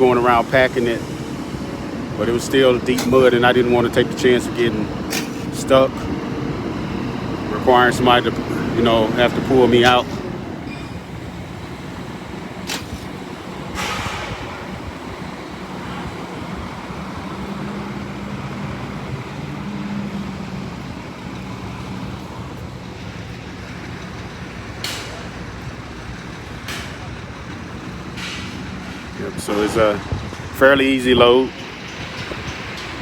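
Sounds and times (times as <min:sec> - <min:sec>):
truck driving through mud: 0:00.0 - 0:33.0.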